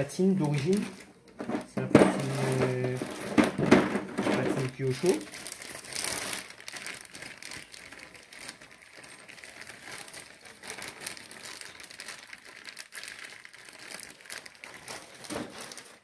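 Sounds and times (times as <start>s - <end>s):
crinkling rustle: 0.0s - 16.0s.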